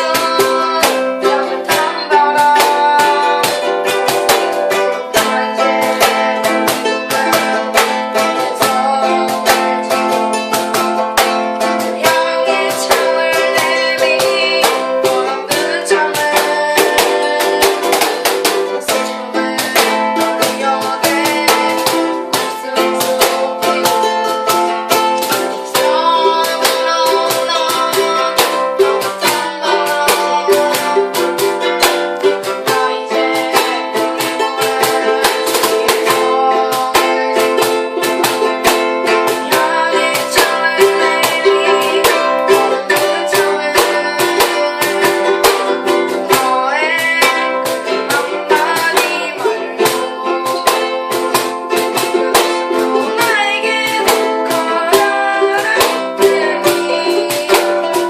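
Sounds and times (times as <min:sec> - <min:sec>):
person singing: 0:00.0 - 0:58.0
ukulele strumming: 0:00.0 - 0:58.0.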